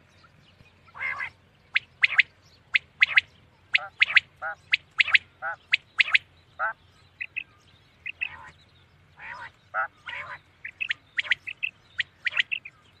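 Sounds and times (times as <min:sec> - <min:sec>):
quail calling: 0:00.9 - 0:08.6, 0:09.2 - 0:12.8.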